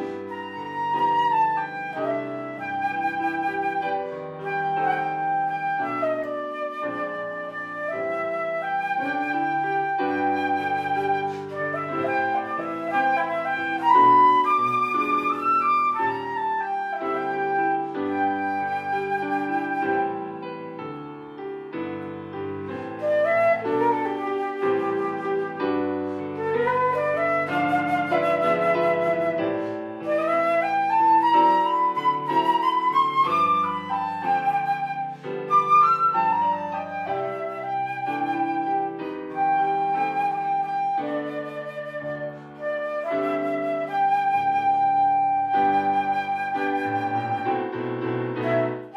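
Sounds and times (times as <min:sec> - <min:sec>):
flute-like melody: 0:00.0 - 0:48.9.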